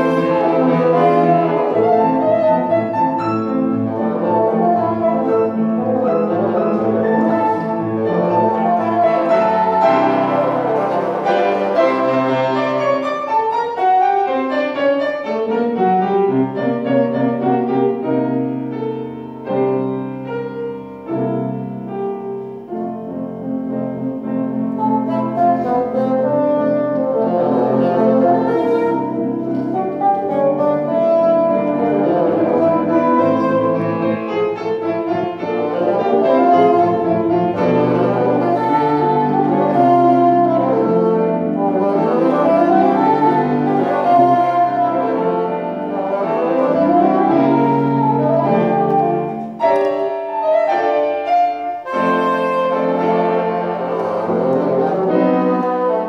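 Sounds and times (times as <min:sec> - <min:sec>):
bassoon playing: 0:00.0 - 0:18.5, 0:22.8 - 0:56.0
grand piano accompaniment: 0:00.0 - 0:56.0.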